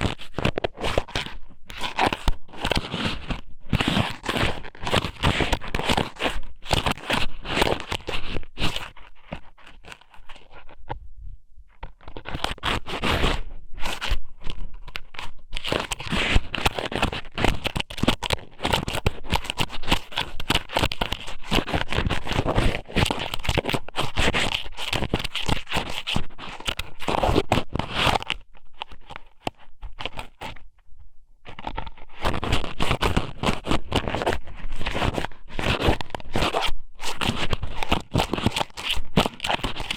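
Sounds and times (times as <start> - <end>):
squid rubbed on microphone: 0.0 - 11.0, 11.8 - 30.6, 31.4 - 39.9.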